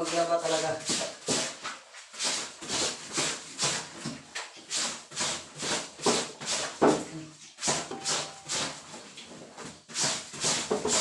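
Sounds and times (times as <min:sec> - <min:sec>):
wet blanket scrubbed by hand: 0:00.0 - 0:11.0.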